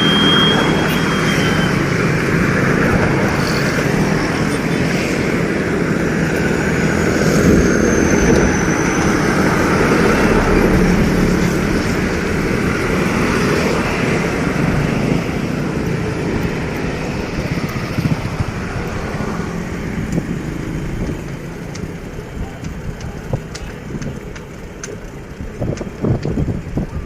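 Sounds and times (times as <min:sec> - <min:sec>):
road noise: 0:00.0 - 0:27.0
vehicle engine running: 0:00.0 - 0:27.0.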